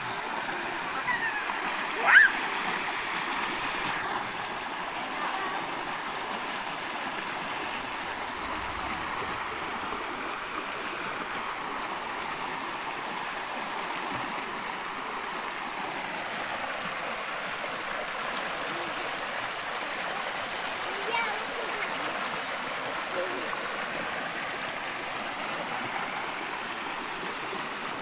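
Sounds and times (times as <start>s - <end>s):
stream water rushing over rock: 0.0s - 28.0s.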